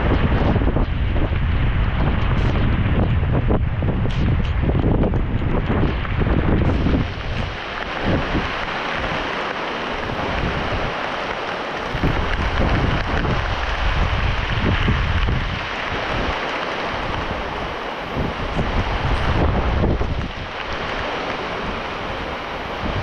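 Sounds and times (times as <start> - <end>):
heavy rain hissing: 0.0 - 23.0
wind buffeting microphone: 0.0 - 23.0.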